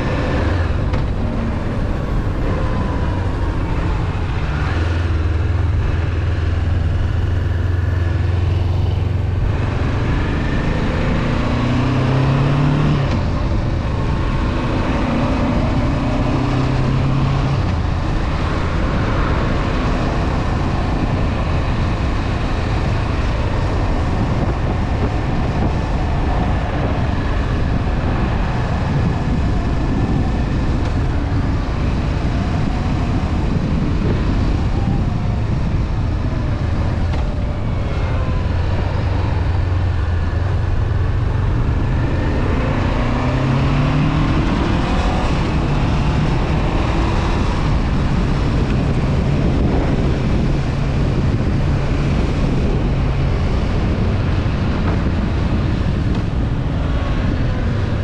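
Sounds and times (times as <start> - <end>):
road noise: 0.0 - 58.0
wind noise: 0.0 - 58.0.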